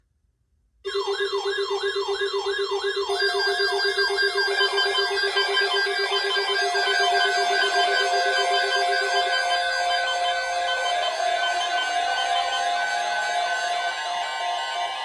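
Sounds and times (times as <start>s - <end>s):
falling siren sweep: 0.9s - 15.0s
high warbling alarm: 0.9s - 15.0s
pulsing low alarm tone: 0.9s - 15.0s
steady alarm tones: 0.9s - 15.0s.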